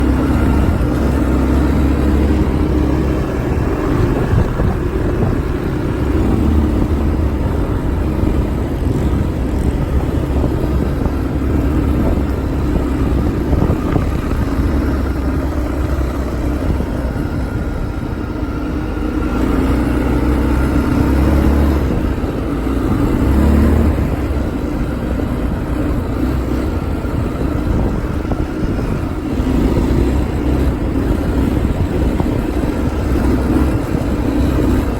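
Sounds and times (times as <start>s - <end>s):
atv engine rumbling: 0.0s - 34.9s.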